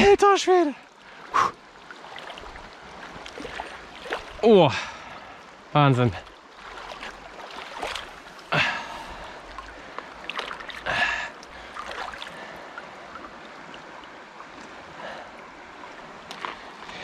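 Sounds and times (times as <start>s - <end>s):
shallow river water running: 0.0s - 17.0s
water splashing and sloshing: 0.0s - 17.0s.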